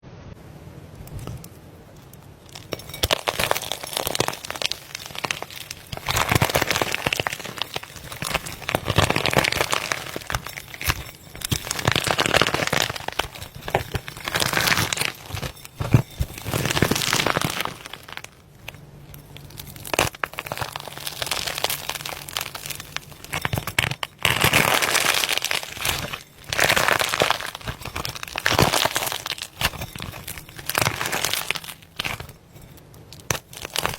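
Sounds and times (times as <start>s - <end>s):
slime crackling and popping: 2.0s - 33.9s.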